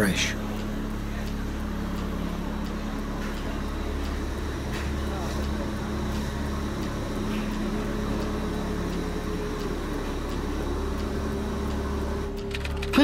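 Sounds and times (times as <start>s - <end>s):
kitchen machinery hum and hiss: 0.0s - 13.0s.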